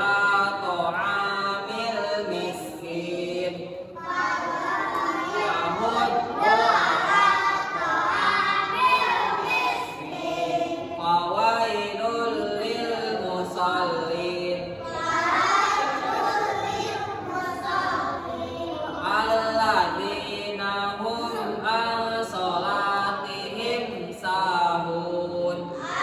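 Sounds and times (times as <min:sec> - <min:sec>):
children chanting in unison: 0:00.0 - 0:24.3, 0:25.3 - 0:26.0.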